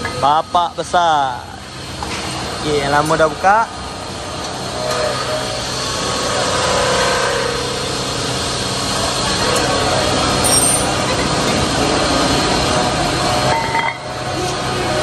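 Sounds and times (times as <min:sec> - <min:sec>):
machinery low hum: 0:00.0 - 0:15.0.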